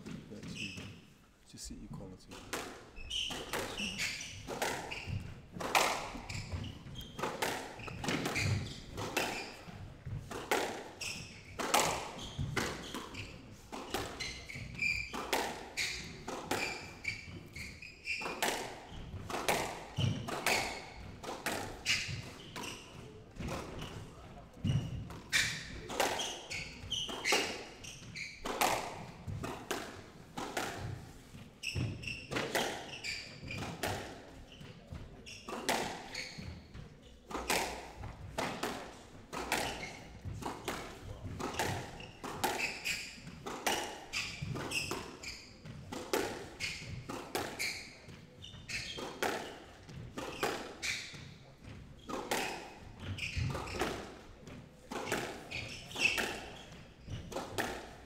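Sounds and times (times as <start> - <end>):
squash ball impacts: 2.3 - 58.0.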